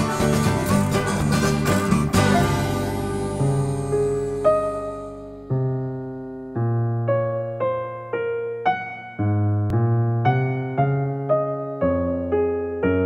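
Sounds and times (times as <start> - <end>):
gentle electric piano music: 0.0 - 13.0.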